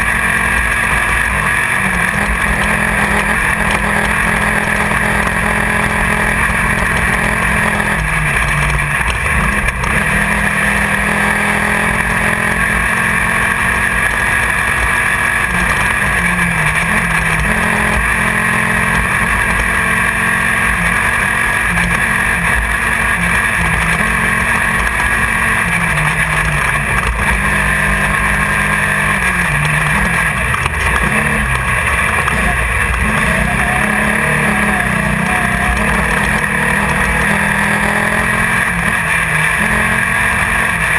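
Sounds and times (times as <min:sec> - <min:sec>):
dirt noise: 0:00.0 - 0:40.9
race car engine running hard: 0:00.0 - 0:40.9.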